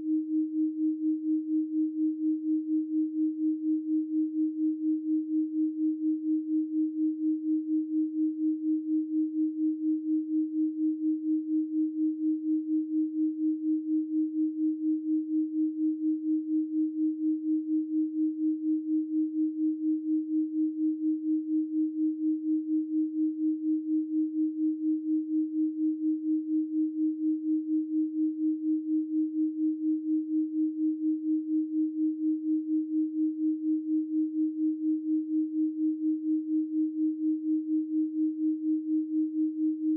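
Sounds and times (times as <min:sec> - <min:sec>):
pulsing sine tone: 0:00.0 - 0:39.9.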